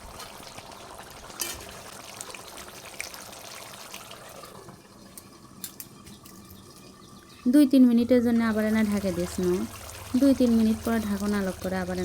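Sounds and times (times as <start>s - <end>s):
curry bubbling and sizzling in pan: 0.0s - 7.6s, 8.4s - 12.0s.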